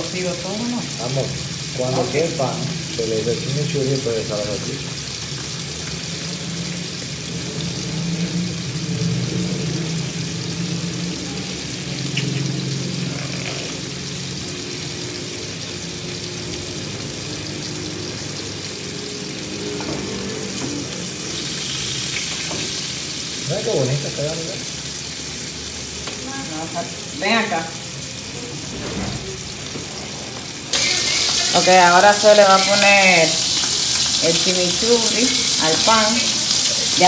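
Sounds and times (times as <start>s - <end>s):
sausages sizzling in a frying pan: 0.0s - 28.7s, 29.3s - 37.0s.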